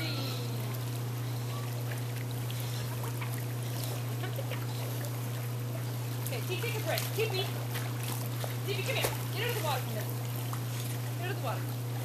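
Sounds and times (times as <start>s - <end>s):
pool filter pump humming: 0.0s - 12.0s
water trickling and lapping: 0.0s - 12.0s.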